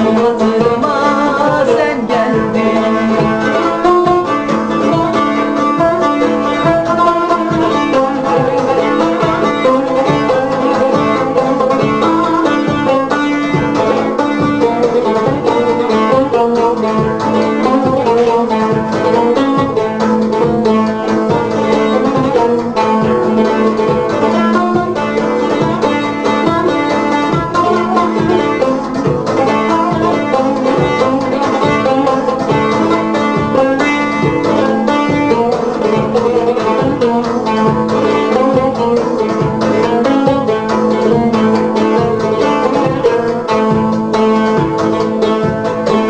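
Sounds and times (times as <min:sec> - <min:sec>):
backing with steady beat: 0:00.0 - 0:46.0
plucked lute melody: 0:00.0 - 0:46.0.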